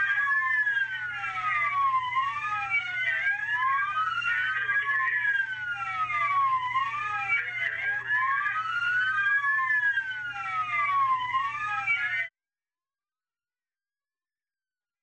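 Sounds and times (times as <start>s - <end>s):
police sirens wailing: 0.0s - 12.3s.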